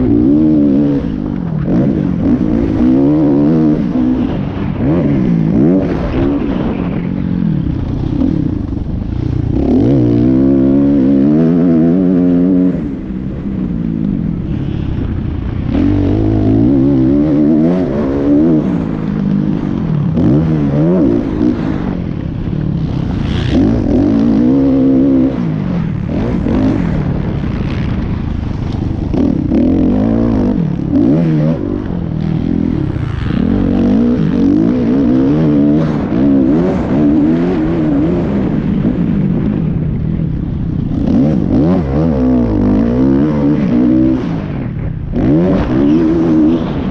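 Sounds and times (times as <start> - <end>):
dirt bike engine revving: 0.0 - 39.8, 40.4 - 46.9.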